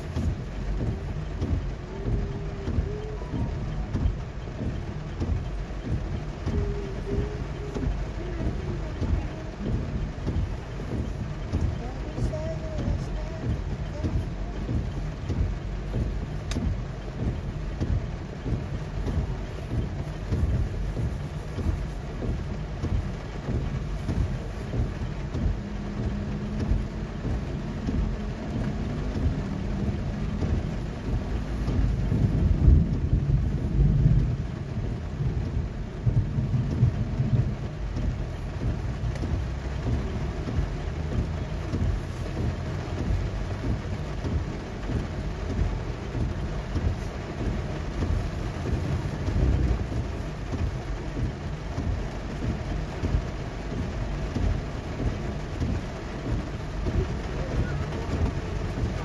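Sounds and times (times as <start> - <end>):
deep low rumble: 0.0 - 59.0
heavy rain on car roof: 0.0 - 59.0.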